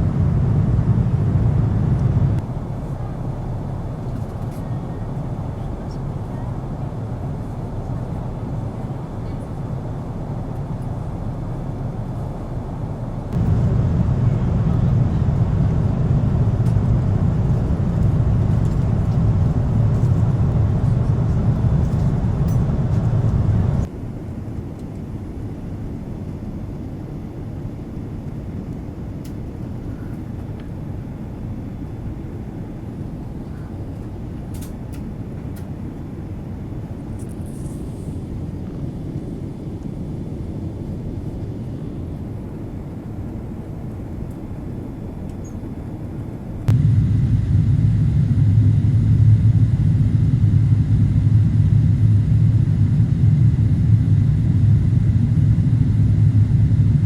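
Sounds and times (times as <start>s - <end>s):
airliner cabin rumble: 0.0s - 24.2s, 29.5s - 57.0s.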